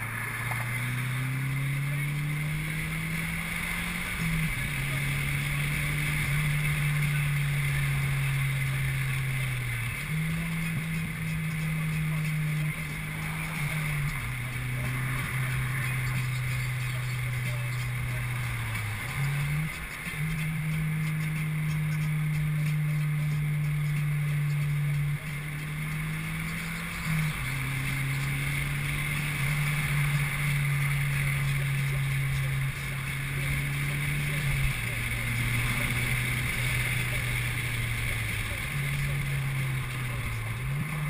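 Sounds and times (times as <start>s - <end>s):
car engine droning: 0.0s - 41.0s.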